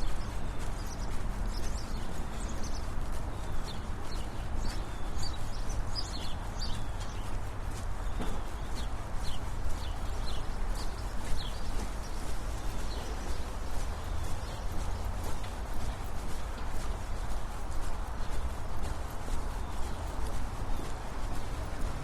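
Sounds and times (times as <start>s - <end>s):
birds chirping: 0.0s - 22.0s
footsteps on pavement: 0.0s - 22.0s.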